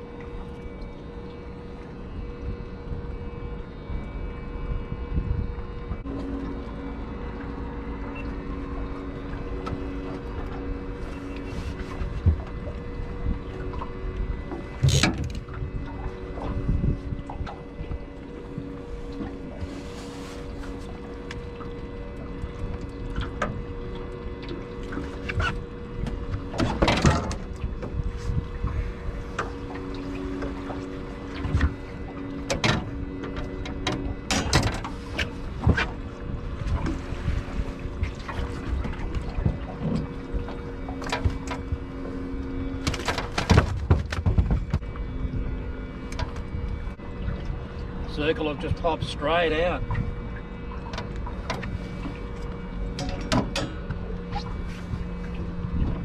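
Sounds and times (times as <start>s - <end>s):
steady low hum: 0.0s - 56.0s
wind rumbling on microphone: 0.0s - 56.0s.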